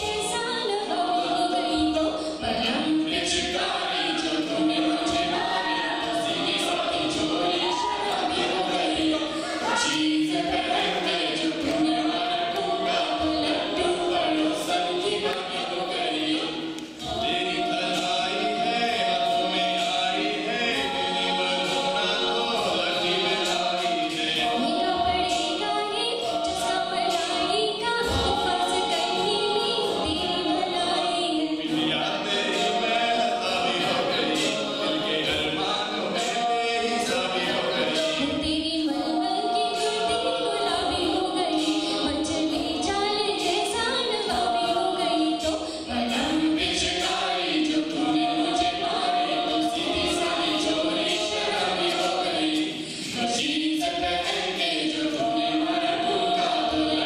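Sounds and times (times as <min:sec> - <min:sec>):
a cappella group singing: 0:00.0 - 0:57.0.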